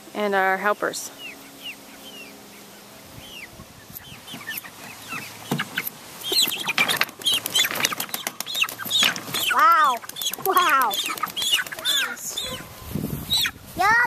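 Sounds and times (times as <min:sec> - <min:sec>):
chickens clucking: 0:00.6 - 0:13.8.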